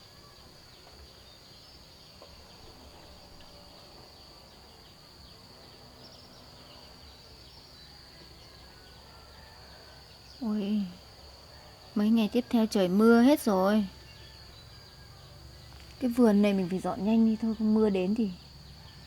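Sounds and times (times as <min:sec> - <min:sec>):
insects trilling: 0:00.0 - 0:19.0
low background noise: 0:00.0 - 0:19.0.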